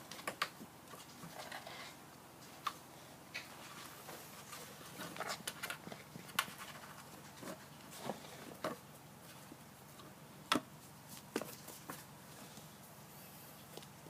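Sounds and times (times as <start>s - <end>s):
kittens' paws tapping and scuffling: 0.0s - 14.0s.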